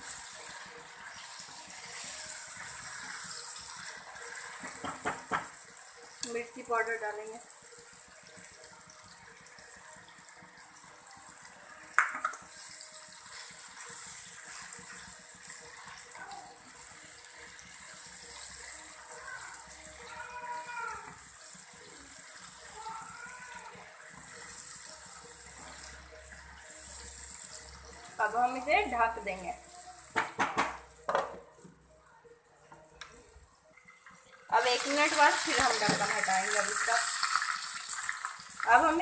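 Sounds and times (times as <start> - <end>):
fries sizzling in hot oil: 0.0 - 31.8, 33.2 - 39.0.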